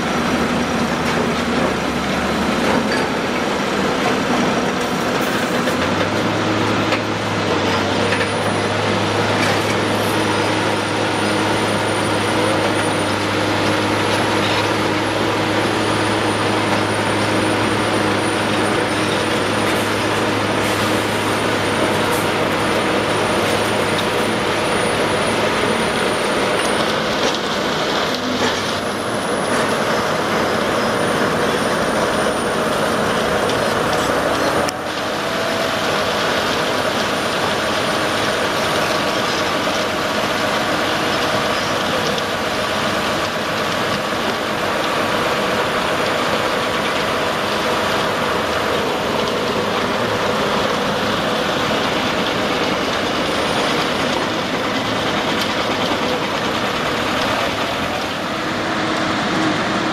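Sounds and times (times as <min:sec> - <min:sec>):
concrete pouring down chute: 0:00.0 - 0:59.9
heavy diesel machinery running: 0:00.0 - 0:59.9.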